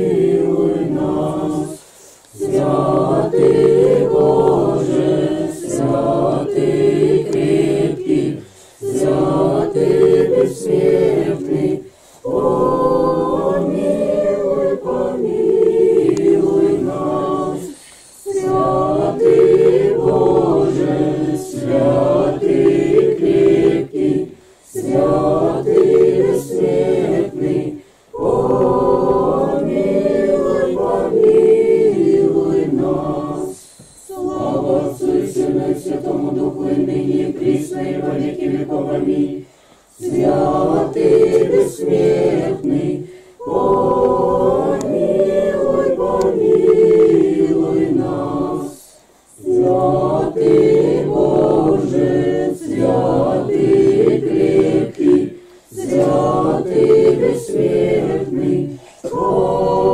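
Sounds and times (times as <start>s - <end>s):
group singing unaccompanied hymn: 0.0s - 59.9s.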